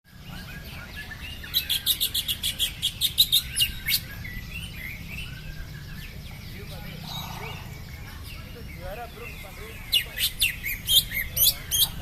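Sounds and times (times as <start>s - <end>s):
other birds chirping: 0.1s - 12.0s.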